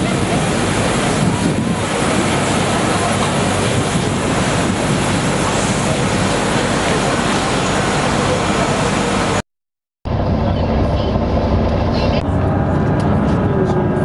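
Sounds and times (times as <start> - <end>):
aircraft noise: 0.0 - 9.4, 10.1 - 14.0.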